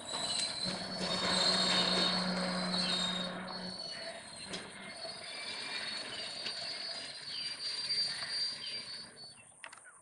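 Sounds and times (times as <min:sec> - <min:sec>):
train wheels squealing: 0:00.0 - 0:09.5
birds chirping: 0:00.2 - 0:10.0.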